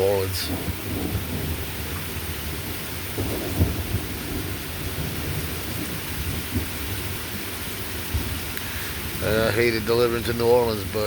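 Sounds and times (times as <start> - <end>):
light rain falling: 0.0 - 11.0
thunder rumbling: 0.0 - 11.0.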